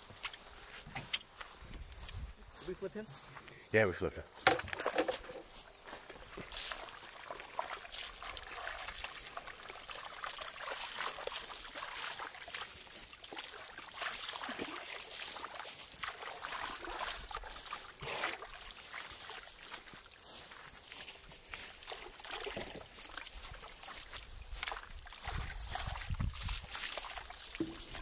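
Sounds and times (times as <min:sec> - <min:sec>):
water sloshing and splashing in tub: 0:04.5 - 0:28.0.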